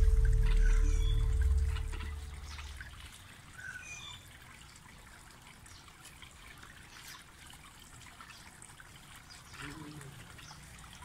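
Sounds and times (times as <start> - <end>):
fountain water trickling and splashing: 0.0 - 11.0.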